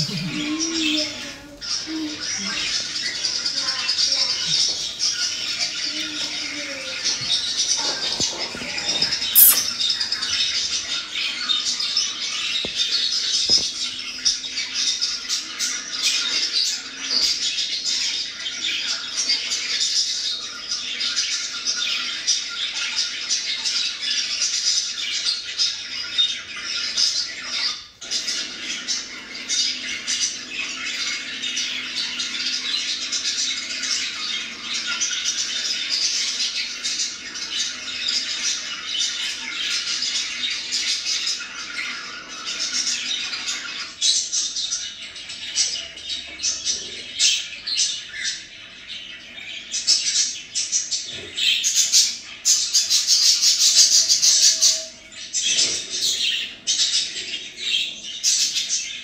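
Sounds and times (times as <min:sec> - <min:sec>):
budgerigars chattering and warbling: 0:00.0 - 0:59.0.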